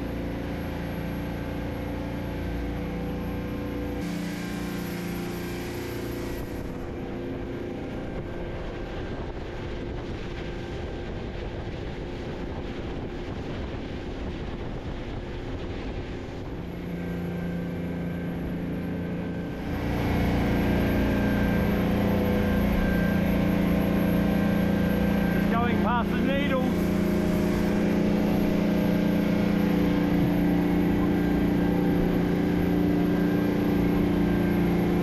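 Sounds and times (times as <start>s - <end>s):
boat engine running: 0.0s - 35.0s
rush of wind and water: 0.0s - 35.0s.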